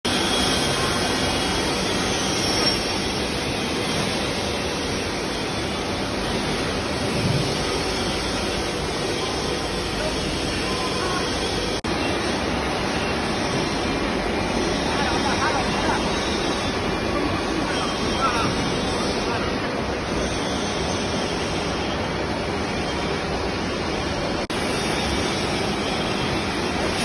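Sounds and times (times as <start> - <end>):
steady machinery noise: 0.1 - 27.0.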